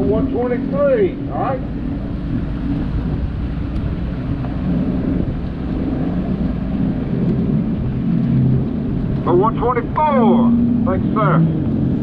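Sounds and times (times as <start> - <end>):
outboard motors idling: 0.0 - 12.0.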